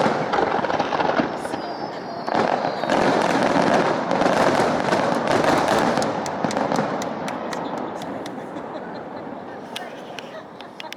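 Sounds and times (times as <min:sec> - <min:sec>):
fireworks bursting: 0:00.0 - 0:10.9
fireworks crackling: 0:00.0 - 0:10.9.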